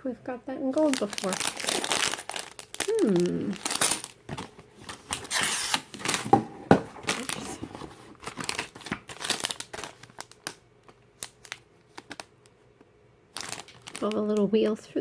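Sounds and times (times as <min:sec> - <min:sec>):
plastic bags crinkling: 0:00.7 - 0:10.6, 0:11.2 - 0:12.3, 0:13.3 - 0:14.4.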